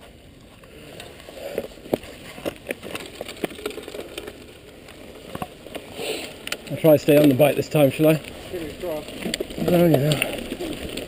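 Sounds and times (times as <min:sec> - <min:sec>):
bike clicks and rattles: 0:00.0 - 0:11.0
bike tyres crunching on gravel: 0:00.0 - 0:11.0.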